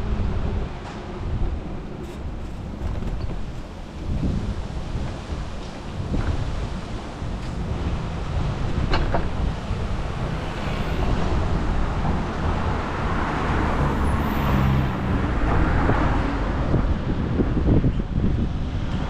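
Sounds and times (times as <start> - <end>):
road traffic: 0.0 - 19.0
wind rushing over microphone: 0.0 - 19.0.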